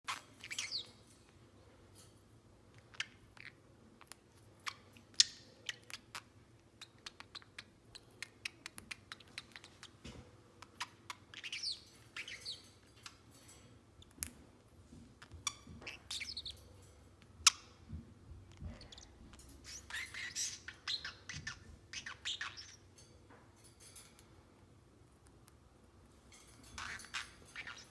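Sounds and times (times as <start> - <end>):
parrotlet chirping: 0.1 - 1.5, 2.7 - 14.3, 15.2 - 23.2, 26.2 - 27.9.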